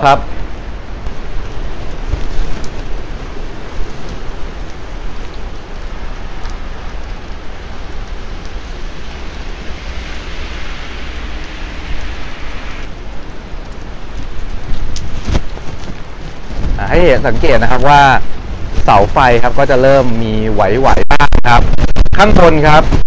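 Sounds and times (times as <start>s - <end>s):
heavy rain pouring on street: 0.0s - 23.0s
strong wind rumble: 0.0s - 23.0s.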